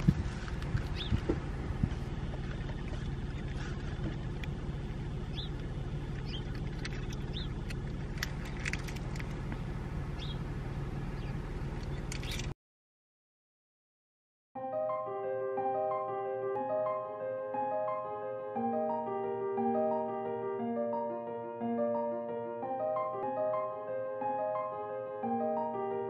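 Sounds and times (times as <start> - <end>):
car engine rumble: 0.0 - 12.6, 15.6 - 26.0.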